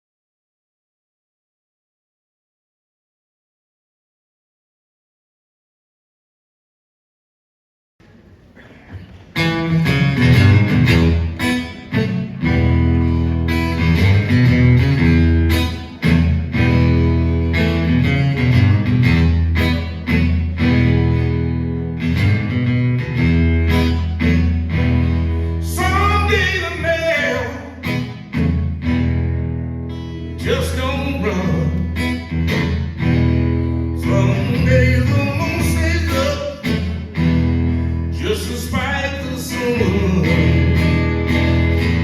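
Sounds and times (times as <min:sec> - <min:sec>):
acoustic guitar picking: 0:08.1 - 0:42.0.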